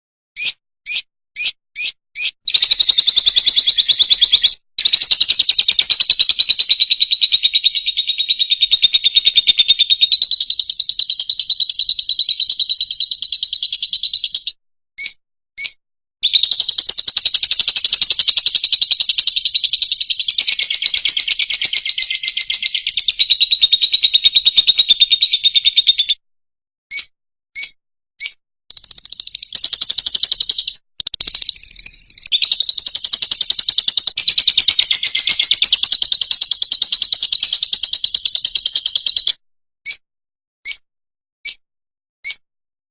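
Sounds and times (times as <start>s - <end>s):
lovebird trilling: 0.4s - 26.1s, 26.9s - 39.3s
bird chirps: 0.4s - 26.2s, 26.9s - 39.4s.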